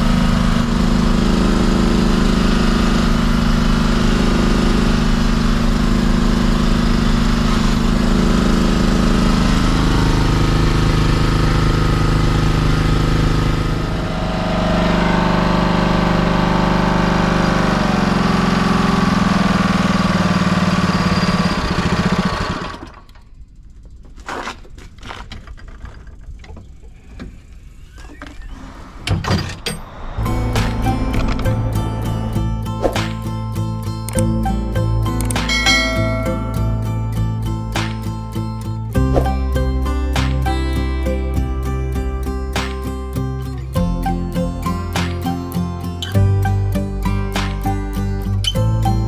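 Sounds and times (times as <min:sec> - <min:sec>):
small petrol engine running: 0:00.0 - 0:27.6, 0:30.0 - 0:49.0.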